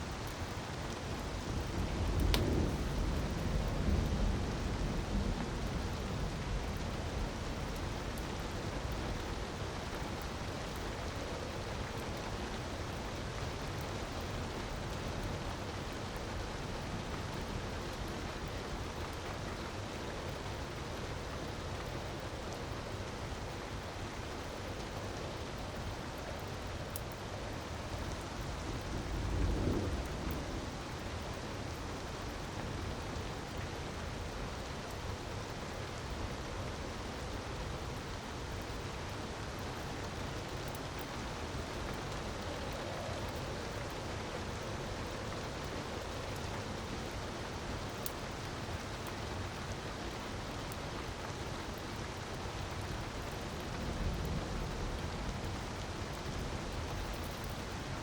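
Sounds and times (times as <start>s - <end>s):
wood fire crackles: 0.0s - 58.0s.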